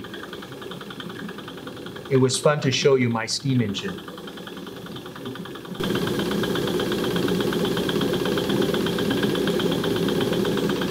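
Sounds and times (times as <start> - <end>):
toy steam engine chugging: 0.0 - 10.9.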